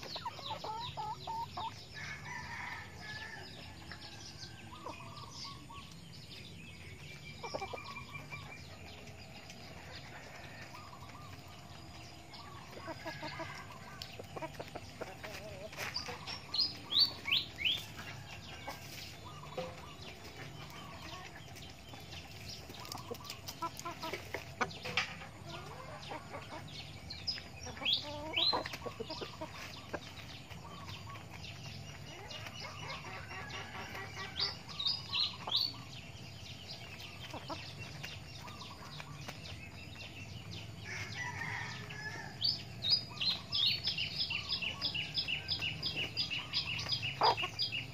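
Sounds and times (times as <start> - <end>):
chickens clucking: 0.0 - 47.9
songbird calling: 4.1 - 8.9, 9.8 - 47.9.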